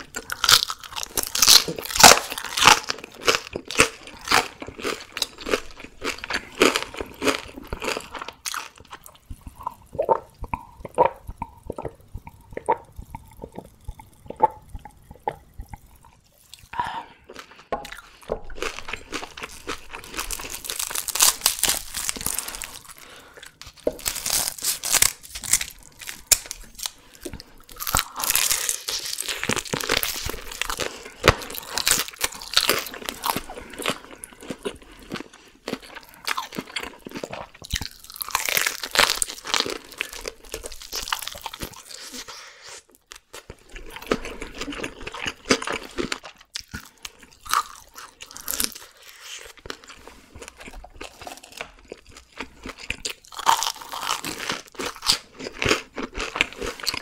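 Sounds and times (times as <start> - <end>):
crunching and chewing: 0.0 - 57.0.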